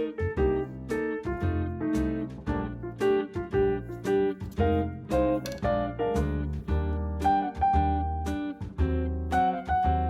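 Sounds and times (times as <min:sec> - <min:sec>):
keyboard and plucked-string music: 0:00.0 - 0:10.0.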